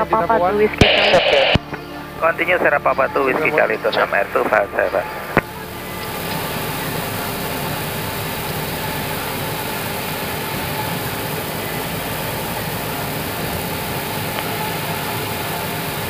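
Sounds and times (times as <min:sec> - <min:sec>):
cockpit hiss and hum: 0:00.0 - 0:16.0
jet engine running: 0:00.0 - 0:16.0.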